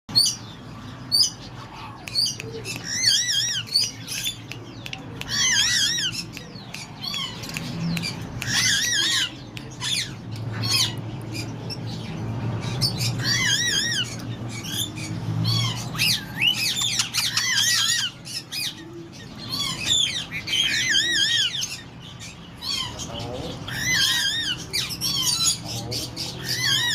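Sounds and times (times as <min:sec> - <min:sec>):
parakeets squawking: 0:00.1 - 0:26.9.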